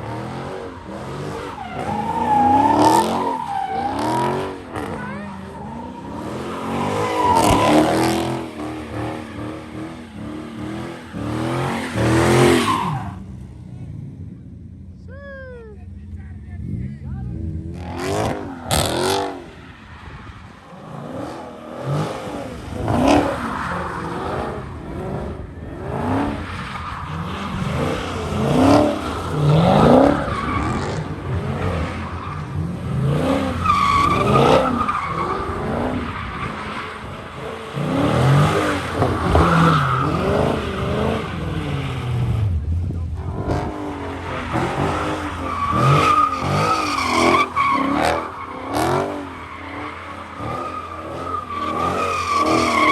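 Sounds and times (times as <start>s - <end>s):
tires squealing: 0.0s - 13.4s, 16.7s - 52.9s
car engines revving: 0.0s - 52.9s.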